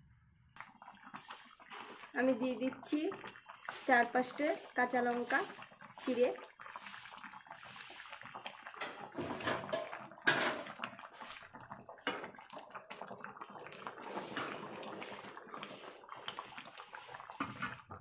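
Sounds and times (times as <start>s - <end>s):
ladle sloshing gravy: 0.6s - 18.0s.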